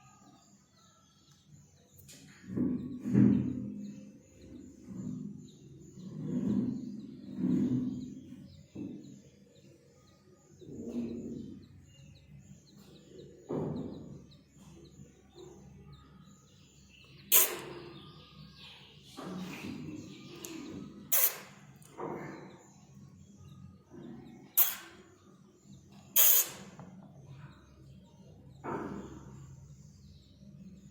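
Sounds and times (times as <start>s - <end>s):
nestling birds cheeping: 0.0s - 30.9s.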